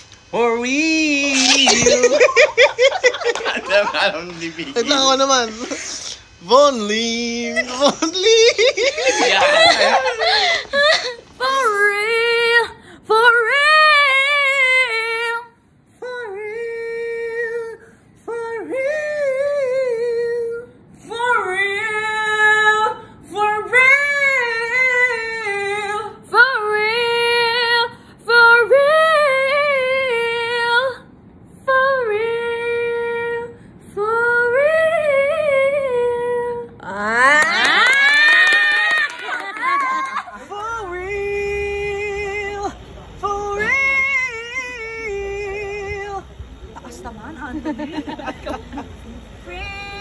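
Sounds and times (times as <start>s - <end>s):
high voice singing a cappella: 0.0s - 46.7s, 49.4s - 50.0s.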